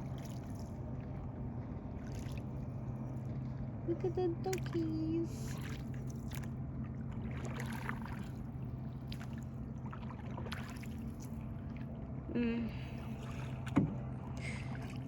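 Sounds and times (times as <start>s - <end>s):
motorboat engine drone: 0.0s - 15.0s.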